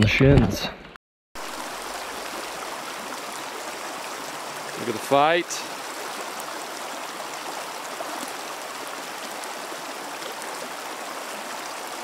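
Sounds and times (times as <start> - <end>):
stream rushing over rocks: 1.4 - 12.0.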